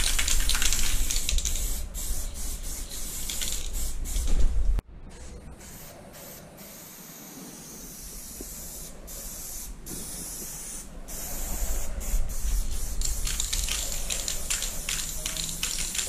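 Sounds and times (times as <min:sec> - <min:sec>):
spray paint can hissing: 0:00.0 - 0:04.4, 0:05.2 - 0:16.0.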